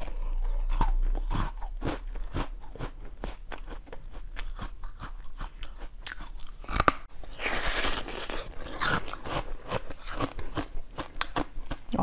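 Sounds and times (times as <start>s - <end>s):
crisp chewing crunches: 0.0s - 12.0s.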